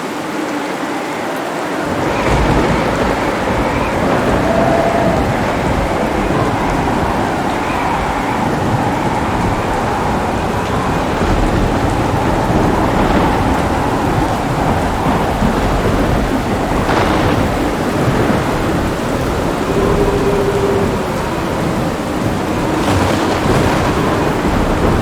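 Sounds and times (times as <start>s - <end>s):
heavy rain pouring: 0.0s - 25.0s
rolling thunder: 1.7s - 25.0s
sharp thunder crack: 1.9s - 25.0s.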